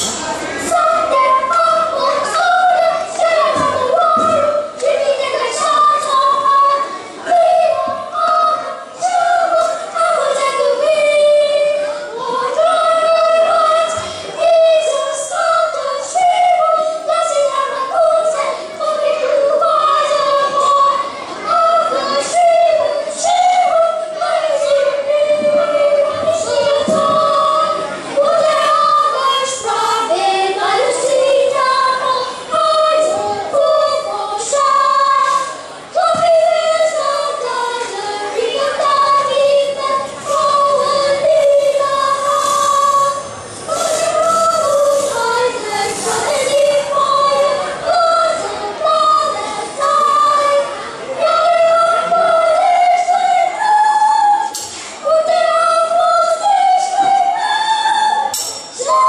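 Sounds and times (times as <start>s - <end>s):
children singing: 0.0s - 59.0s.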